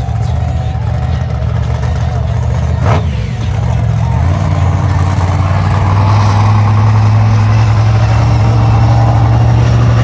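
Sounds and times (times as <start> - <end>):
monster truck engine running: 0.0 - 10.0.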